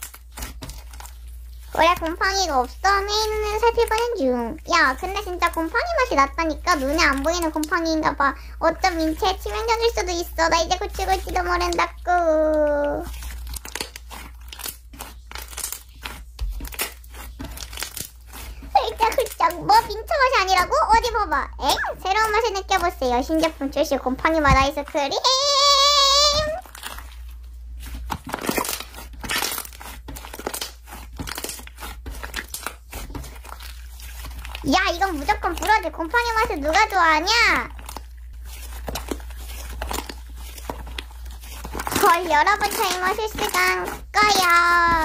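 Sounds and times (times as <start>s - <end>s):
slime crackling and popping: 0.0s - 45.0s.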